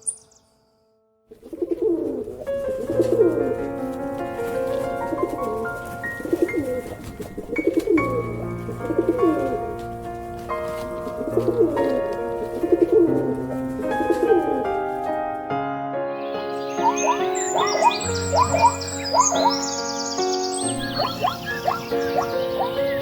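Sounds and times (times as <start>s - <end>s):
low cooing bird calls: 1.3s - 15.1s, 16.2s - 23.0s
sustained keyboard music: 1.5s - 23.0s.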